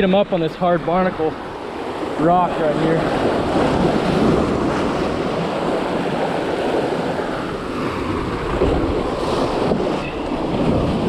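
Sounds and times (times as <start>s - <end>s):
waves breaking over boulders: 0.0s - 11.0s
wind buffeting microphone: 0.0s - 11.0s.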